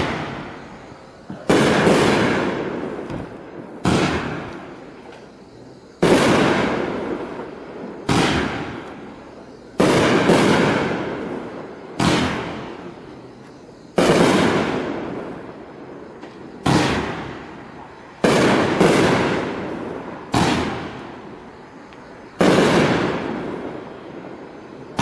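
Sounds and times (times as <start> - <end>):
firework shells bursting: 0.0 - 13.2, 13.9 - 15.5, 16.1 - 25.0.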